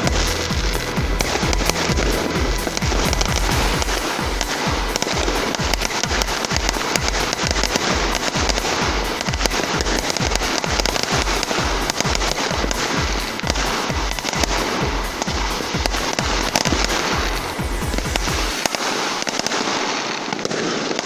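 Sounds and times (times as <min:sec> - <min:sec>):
music with thumping beat: 0:00.0 - 0:19.8
fireworks crackling and popping: 0:00.0 - 0:21.0.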